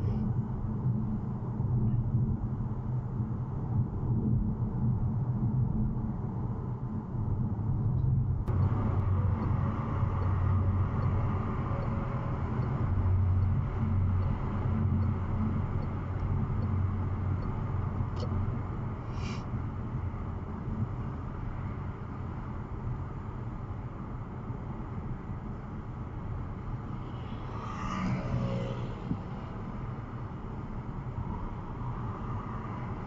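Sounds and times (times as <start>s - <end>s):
car road and engine drone: 0.0s - 33.0s.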